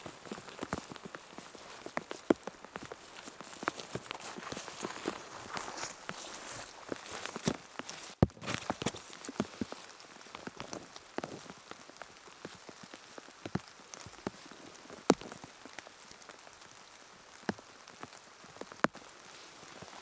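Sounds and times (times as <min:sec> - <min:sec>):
rain falling on foliage: 0:00.0 - 0:20.0.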